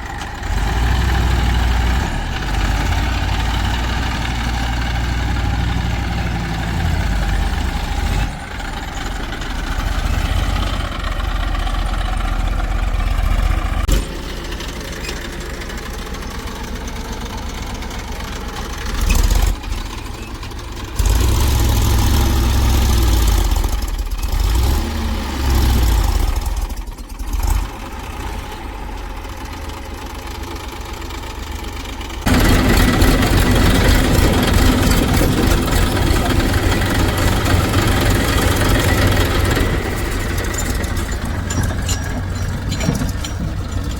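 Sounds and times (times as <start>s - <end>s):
diesel engines idling and revving: 0.0s - 43.9s.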